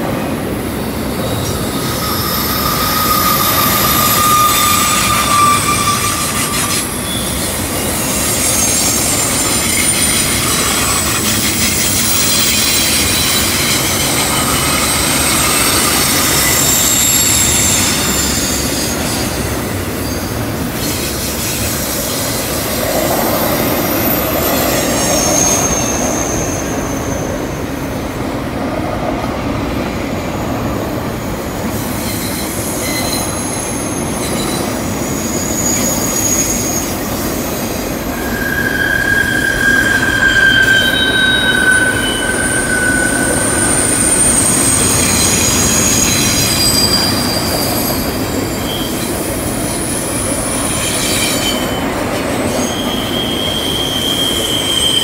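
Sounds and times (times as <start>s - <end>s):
train wheels rumbling on rail: 0.0s - 55.0s
wheel flanges squealing: 1.2s - 27.6s, 31.8s - 55.0s.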